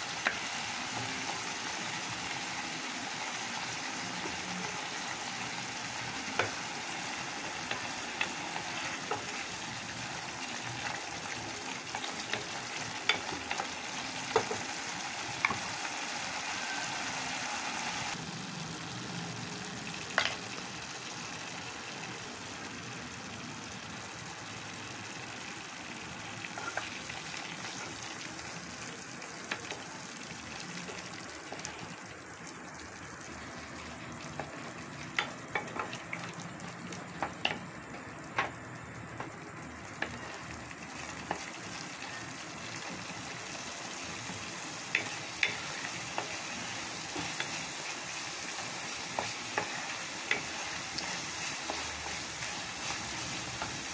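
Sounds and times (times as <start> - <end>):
paste sizzling in a pan: 0.0 - 22.9, 23.7 - 53.9.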